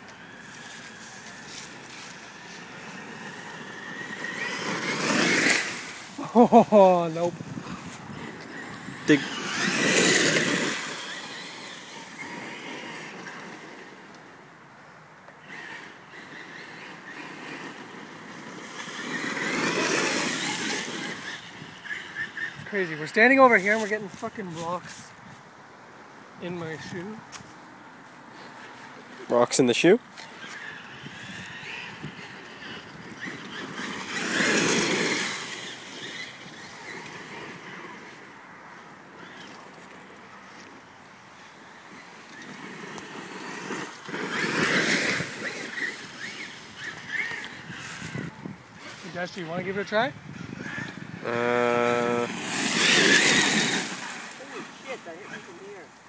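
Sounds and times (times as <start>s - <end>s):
rc truck motor: 0.0s - 6.2s, 7.2s - 14.2s, 15.3s - 23.1s, 30.1s - 55.7s
tyres kicking up gravel: 0.0s - 14.1s, 15.4s - 24.4s, 28.7s - 56.0s.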